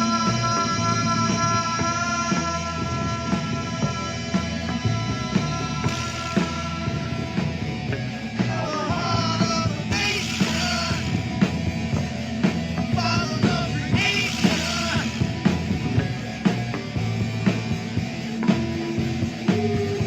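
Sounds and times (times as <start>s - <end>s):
rock music with drum beat: 0.0s - 20.0s.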